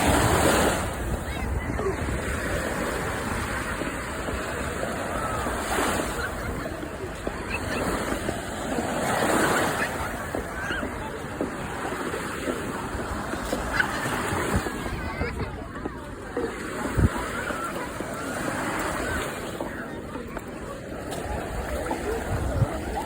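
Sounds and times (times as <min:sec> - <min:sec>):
waves breaking on a beach: 0:00.0 - 0:23.0.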